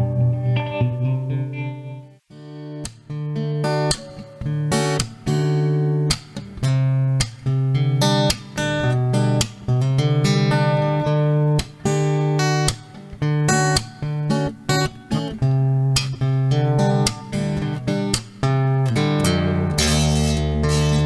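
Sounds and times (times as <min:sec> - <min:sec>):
guitar music: 0:00.0 - 0:21.0.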